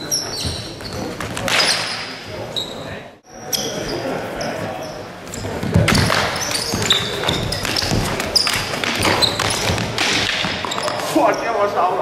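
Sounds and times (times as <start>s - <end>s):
sneakers squeaking on wooden floor: 0.0s - 11.7s.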